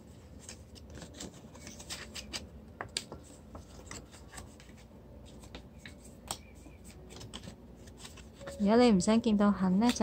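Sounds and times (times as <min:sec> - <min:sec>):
paper folding rustle: 0:00.0 - 0:08.7.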